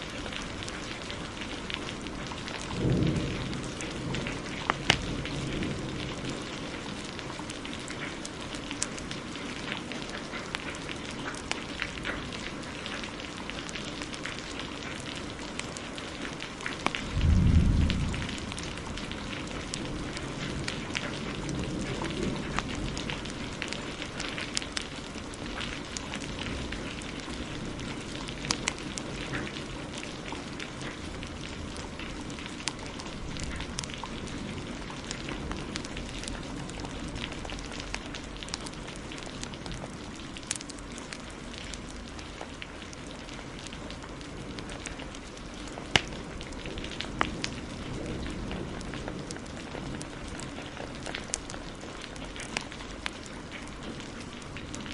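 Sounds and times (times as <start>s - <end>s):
heavy rain: 0.0s - 54.9s
wood fire crackling and popping: 0.0s - 54.9s.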